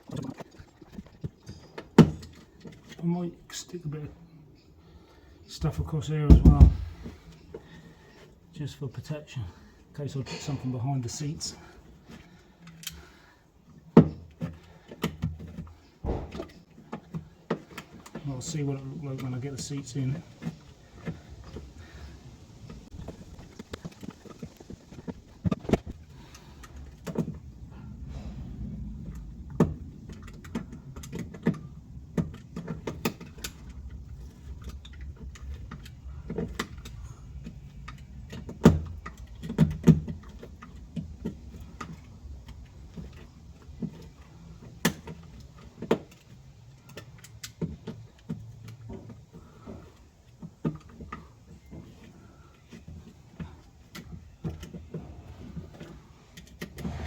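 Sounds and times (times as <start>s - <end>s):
clicks and knocks of hand work: 0.0s - 3.8s, 10.1s - 57.0s.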